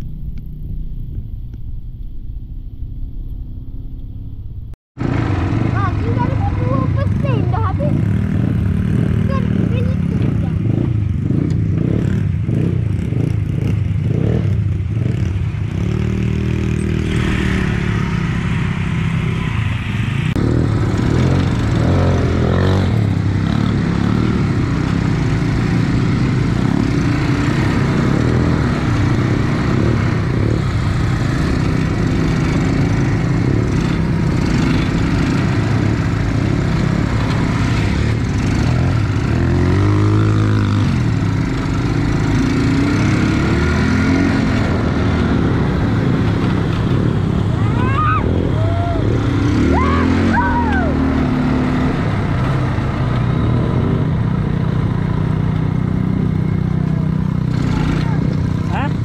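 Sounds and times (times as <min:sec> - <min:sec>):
quad bike engine revving: 0:05.0 - 0:59.0.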